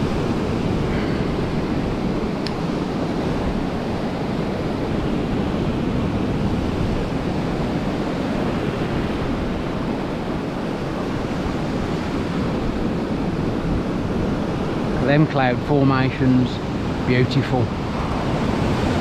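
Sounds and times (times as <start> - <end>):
surf breaking on shore: 0.0 - 19.0
wind buffeting microphone: 0.0 - 19.0.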